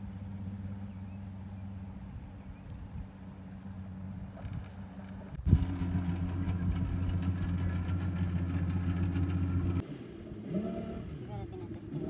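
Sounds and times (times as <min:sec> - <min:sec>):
motorboat engine idling: 0:00.0 - 0:12.0.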